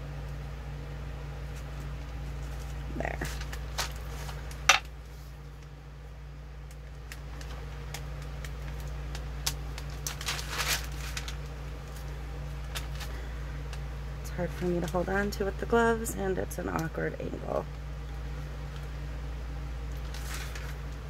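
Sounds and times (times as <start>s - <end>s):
steady low hum: 0.0s - 21.0s
plastic gloves rustling and crinkling: 1.3s - 21.0s.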